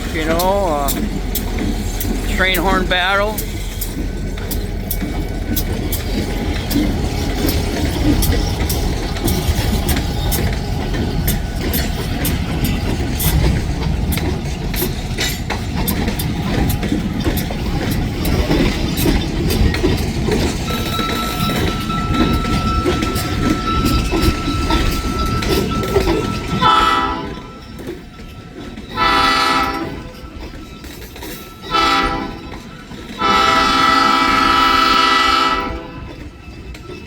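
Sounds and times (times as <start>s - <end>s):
freight train rumble: 0.0s - 37.0s
train wheels clicking over rail joints: 0.0s - 37.0s.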